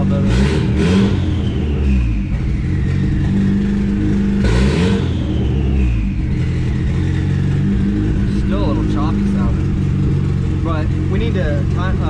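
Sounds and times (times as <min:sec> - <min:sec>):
car engine idling: 0:00.0 - 0:12.0
engine revving: 0:00.0 - 0:12.0.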